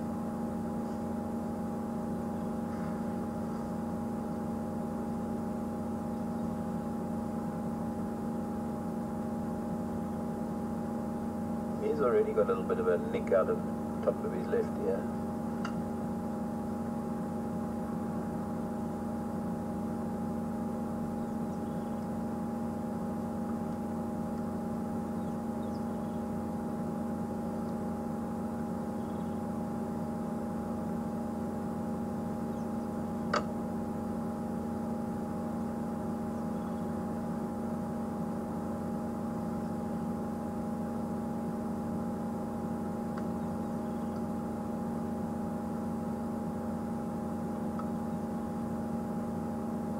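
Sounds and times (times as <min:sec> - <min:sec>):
steady mechanical hum: 0:00.0 - 0:49.9.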